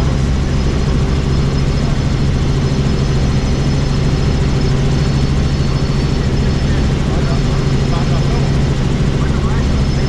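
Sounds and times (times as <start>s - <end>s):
helicopter rotor and engine noise: 0.0s - 10.0s.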